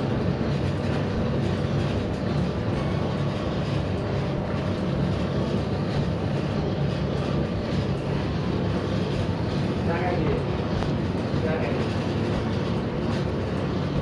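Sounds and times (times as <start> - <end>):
noodle machine running: 0.0 - 14.0.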